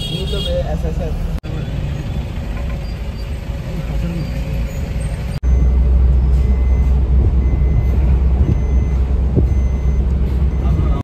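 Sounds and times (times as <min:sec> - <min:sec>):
car driving on road rumble: 0:00.0 - 0:11.0.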